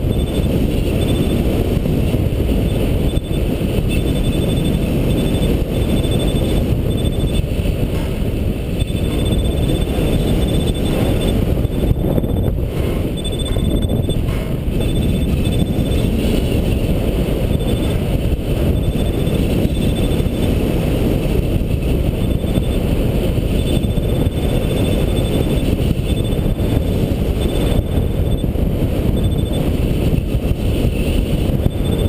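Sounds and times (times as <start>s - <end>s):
rapid high-pitched beeping: 0.0s - 7.7s, 8.6s - 20.6s, 21.8s - 30.2s, 31.6s - 32.0s
wind rush on microphone: 0.0s - 32.0s.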